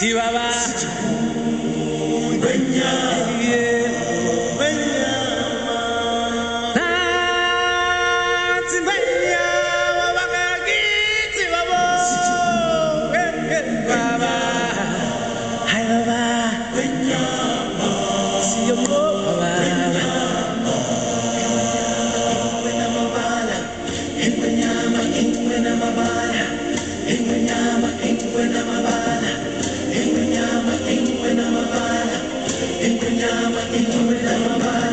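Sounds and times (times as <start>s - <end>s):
choir chanting: 0.0s - 34.9s.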